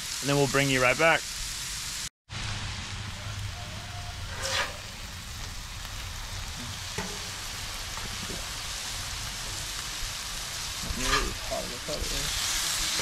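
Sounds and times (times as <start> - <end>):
fish sizzling on a griddle: 0.0 - 13.0.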